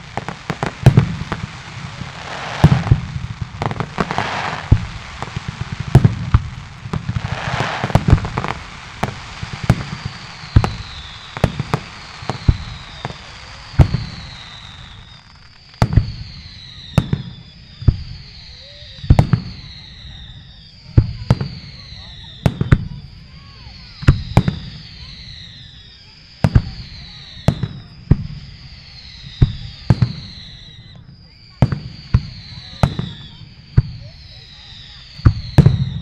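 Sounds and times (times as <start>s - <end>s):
firework shells booming: 0.0s - 36.0s
fireworks crackling: 0.0s - 36.0s
high falling firework whistles: 0.0s - 36.0s.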